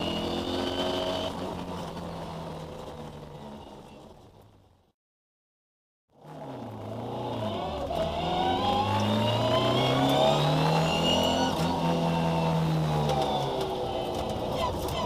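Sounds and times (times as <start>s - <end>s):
rally car engine accelerating: 0.0s - 4.4s, 6.1s - 14.9s.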